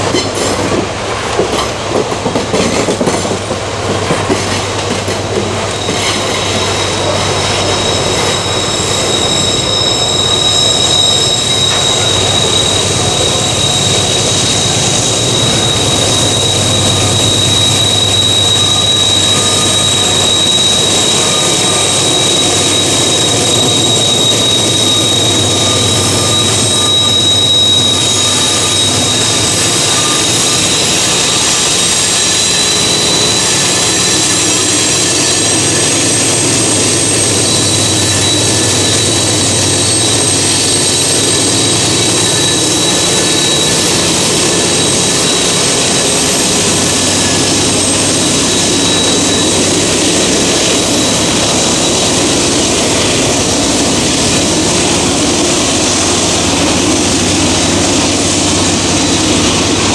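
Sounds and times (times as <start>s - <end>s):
freight train rumbling past: 0.0s - 59.9s
wheels squealing on track: 4.4s - 59.9s.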